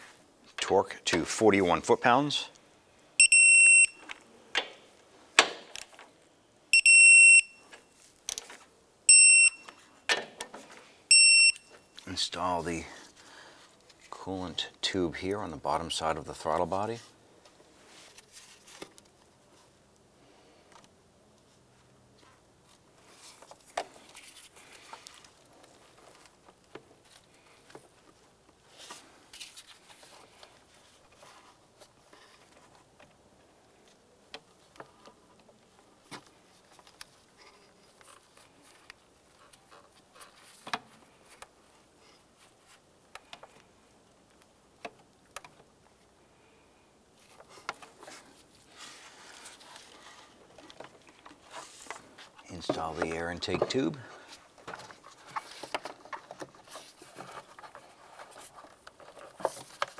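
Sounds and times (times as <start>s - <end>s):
rustling of gloved hands and hoses: 9.6s - 59.9s.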